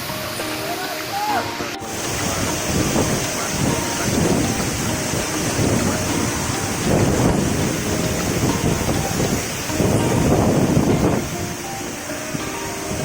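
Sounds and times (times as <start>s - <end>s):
waterfall rushing: 0.0s - 13.0s
wind buffeting microphone: 1.8s - 13.0s.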